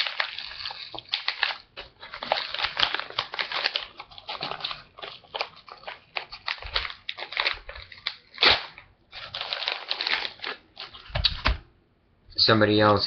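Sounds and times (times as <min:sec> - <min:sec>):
paper envelope crinkling and ripping: 0:00.0 - 0:11.6.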